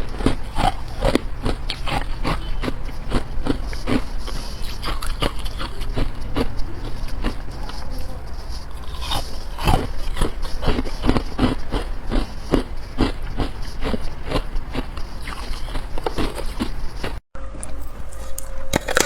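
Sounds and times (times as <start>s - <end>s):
person crunching ice: 0.0s - 17.2s, 17.8s - 19.0s.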